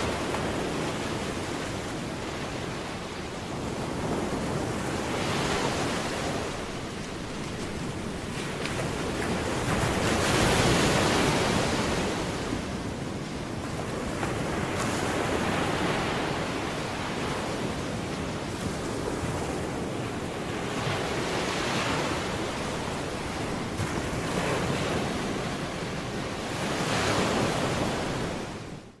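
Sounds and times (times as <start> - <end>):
ocean surf washing onto shore: 0.0 - 29.0.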